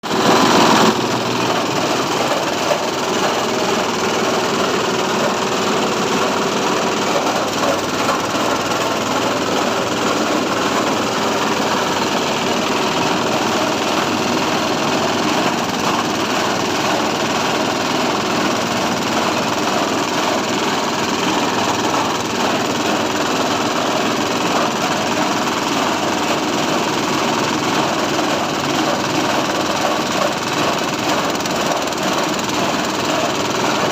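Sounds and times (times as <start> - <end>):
feed grinder running: 0.0 - 33.9.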